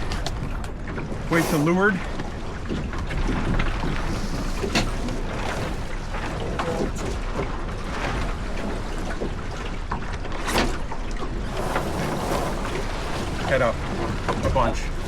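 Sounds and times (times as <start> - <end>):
water washing along boat hull: 0.0 - 15.0.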